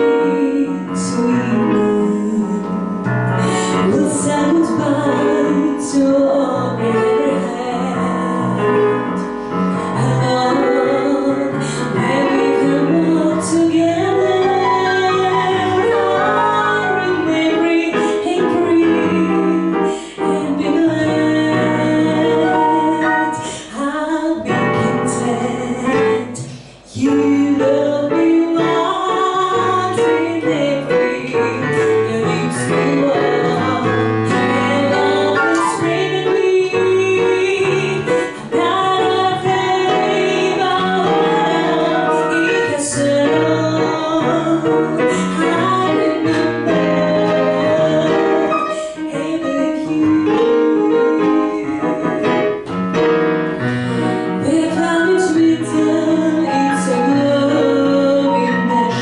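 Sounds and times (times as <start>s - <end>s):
digital piano: 0.0s - 59.0s
woman singing jazz: 0.0s - 59.0s.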